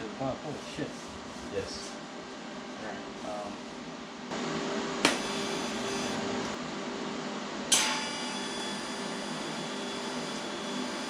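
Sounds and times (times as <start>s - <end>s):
steady shop hum: 0.0s - 11.0s.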